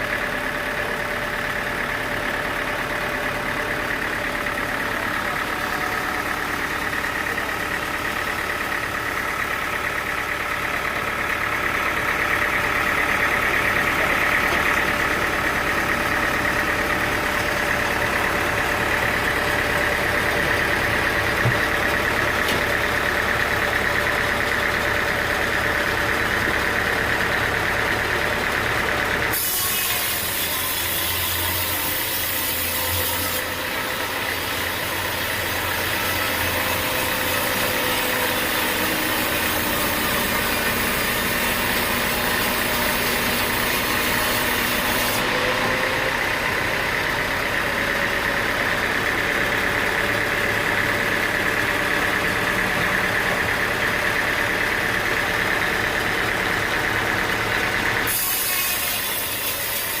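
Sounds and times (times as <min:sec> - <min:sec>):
sawmill engine hum: 0:00.0 - 1:00.0.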